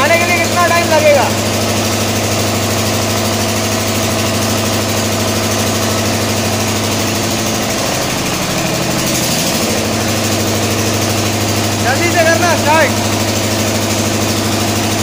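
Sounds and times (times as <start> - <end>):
diesel engine chugging: 0.0 - 15.0.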